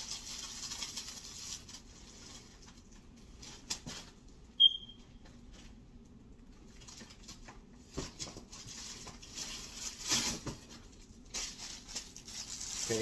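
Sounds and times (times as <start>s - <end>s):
clothing and plastic rustling: 0.0s - 4.4s, 5.1s - 13.0s.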